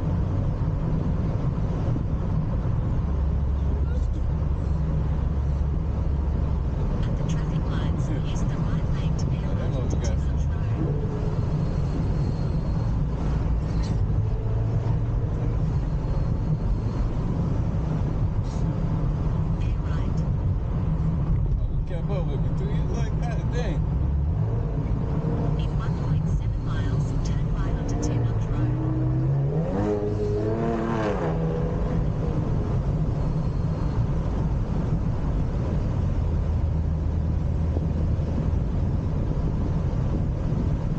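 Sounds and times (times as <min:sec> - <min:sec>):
car engine low drone: 0:00.0 - 0:40.9.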